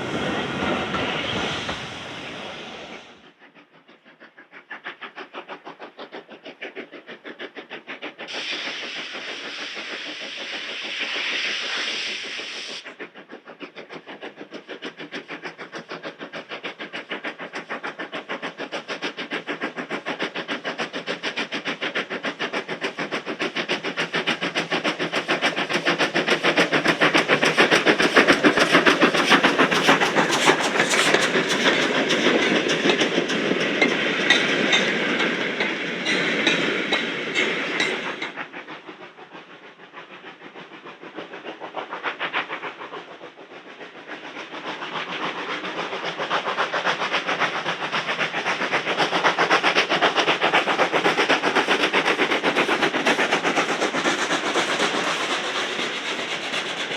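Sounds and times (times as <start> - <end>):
steam locomotive exhaust beat: 0.0 - 56.9.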